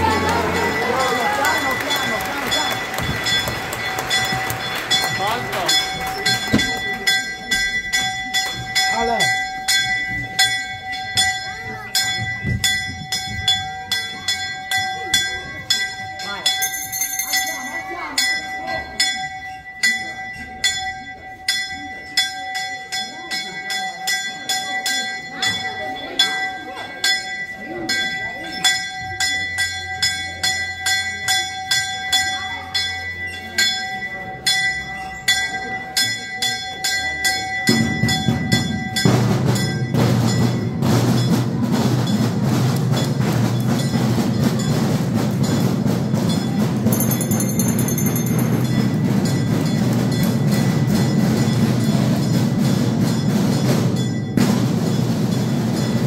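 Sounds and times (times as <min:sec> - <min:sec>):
bell struck rapidly: 0:00.0 - 0:56.0.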